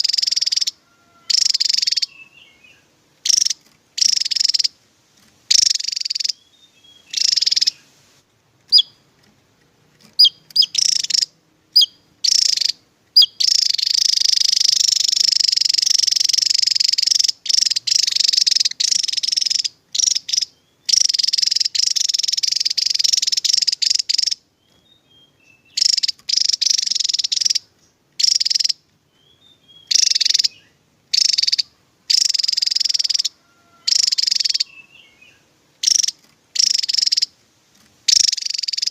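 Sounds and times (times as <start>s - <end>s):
bird singing high rapid trills: 0.0s - 4.8s, 5.5s - 9.1s, 10.0s - 37.4s, 38.0s - 38.9s.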